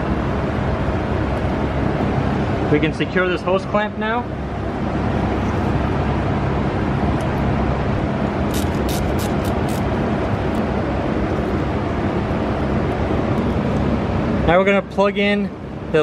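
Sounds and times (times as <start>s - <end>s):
low rumble and hiss: 0.0s - 16.0s.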